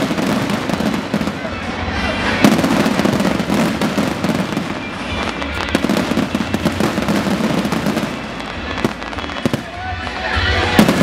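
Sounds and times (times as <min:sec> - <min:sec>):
fireworks bangs and pops: 0:00.0 - 0:11.0
music: 0:00.0 - 0:11.0.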